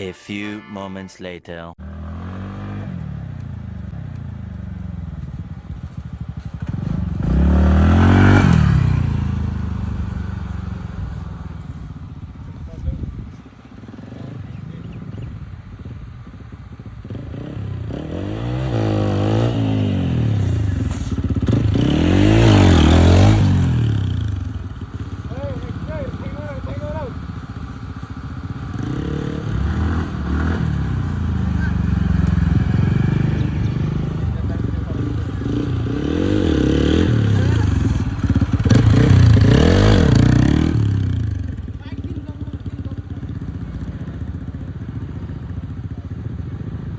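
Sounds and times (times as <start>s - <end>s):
motorcycle engine revving: 1.8s - 46.9s.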